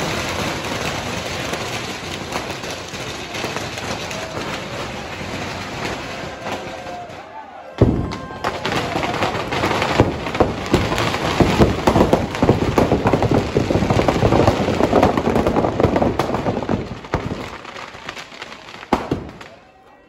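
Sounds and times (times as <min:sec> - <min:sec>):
firecrackers going off: 0:00.0 - 0:20.0.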